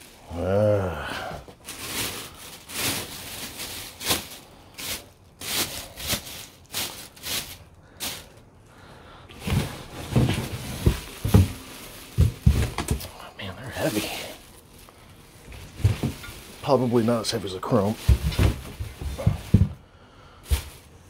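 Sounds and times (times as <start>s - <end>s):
rustles and scrapes of handling: 1.4s - 8.6s, 9.3s - 19.8s, 20.4s - 21.0s.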